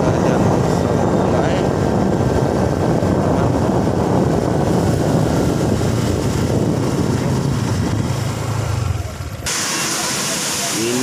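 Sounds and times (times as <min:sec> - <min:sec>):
wind rushing over microphone: 0:00.0 - 0:09.5
motorcycle engine running: 0:00.0 - 0:11.0.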